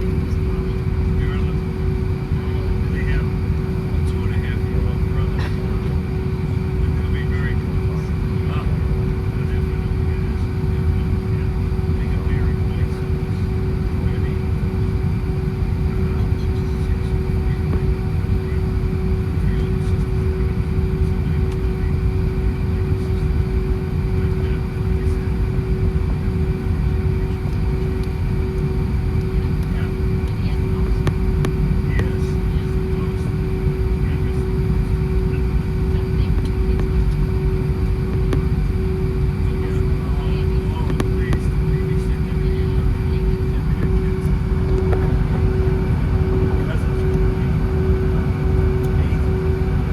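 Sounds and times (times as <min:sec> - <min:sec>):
airplane cabin rumble: 0:00.0 - 0:49.9.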